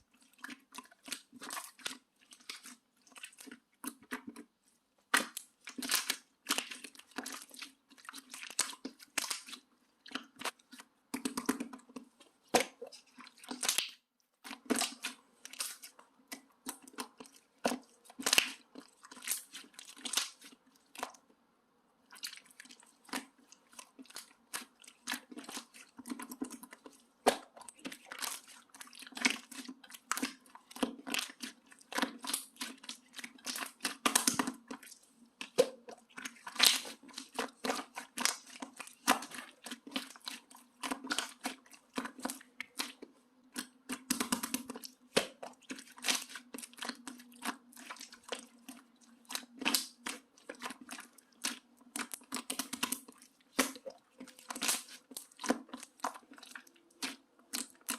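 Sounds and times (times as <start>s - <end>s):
slime squished by hand: 5.1s - 21.2s, 22.1s - 57.9s.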